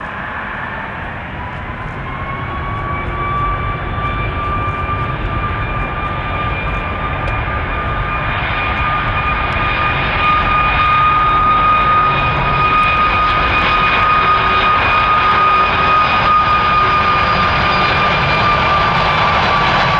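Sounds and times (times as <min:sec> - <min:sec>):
jet engines whining: 0:00.0 - 0:19.9.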